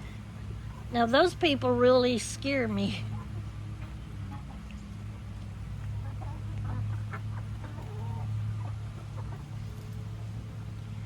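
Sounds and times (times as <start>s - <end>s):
chickens clucking: 0.0s - 10.9s
steady low hum: 0.0s - 11.0s.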